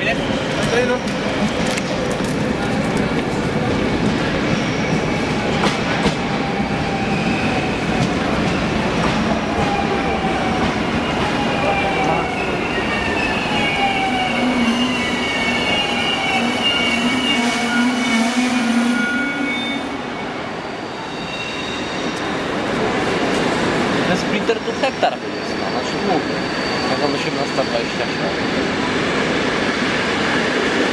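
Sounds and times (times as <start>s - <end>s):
electric train hum: 0.0s - 30.9s
train rumble: 0.0s - 30.9s
train wheels squealing: 0.0s - 30.9s.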